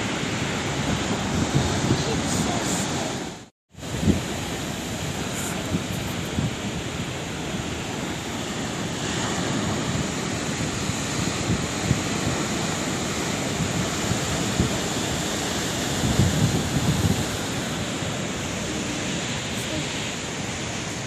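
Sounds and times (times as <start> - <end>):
low buffeting wind gusts: 0.0 - 21.0
sea waves washing in: 0.0 - 21.0.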